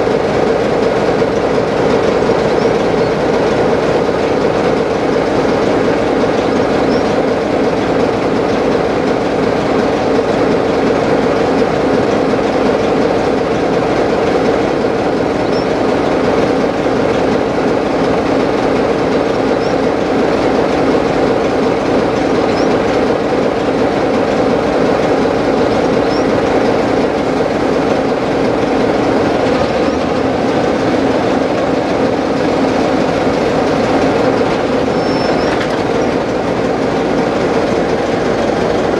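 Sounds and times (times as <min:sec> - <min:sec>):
diesel locomotive engine idling: 0:00.0 - 0:38.9.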